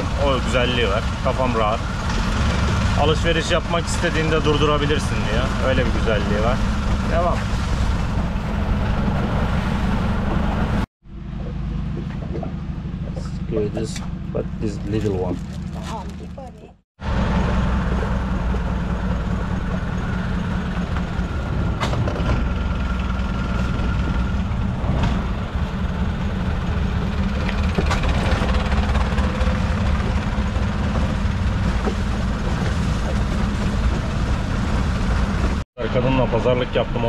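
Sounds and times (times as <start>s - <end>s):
boat engine humming: 0.0s - 37.0s.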